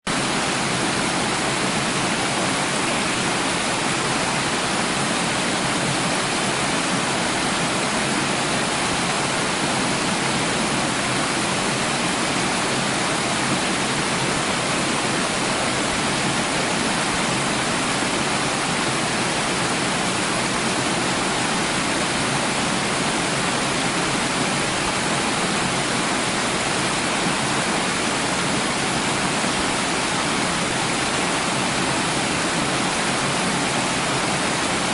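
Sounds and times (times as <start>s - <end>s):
running water rushing: 0.1s - 34.9s.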